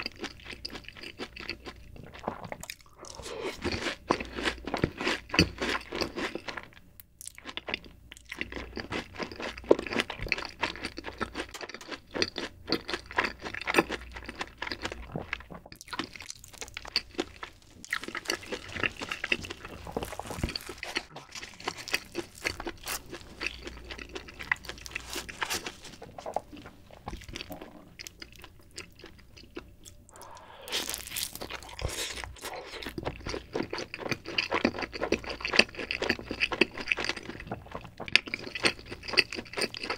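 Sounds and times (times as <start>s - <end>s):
chewing and crunching pizza: 0.0s - 39.9s.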